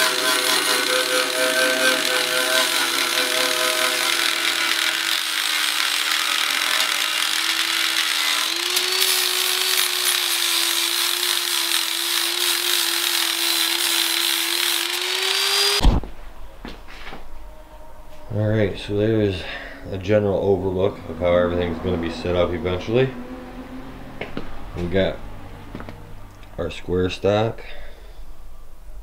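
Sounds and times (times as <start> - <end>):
angle grinder grinding metal: 0.0 - 16.6, 17.3 - 27.9.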